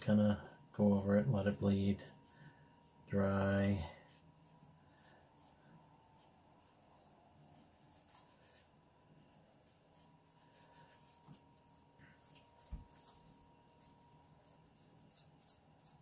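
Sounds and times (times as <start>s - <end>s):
brush scratching on paper: 0.3s - 16.0s.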